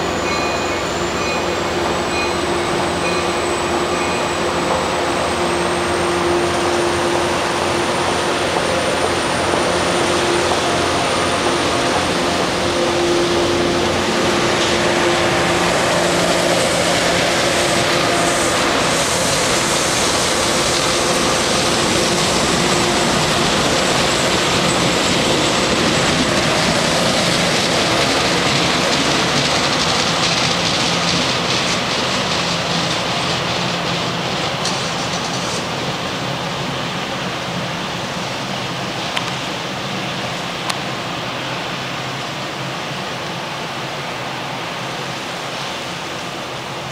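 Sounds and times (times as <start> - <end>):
train wheels rumbling on track: 0.0 - 46.9.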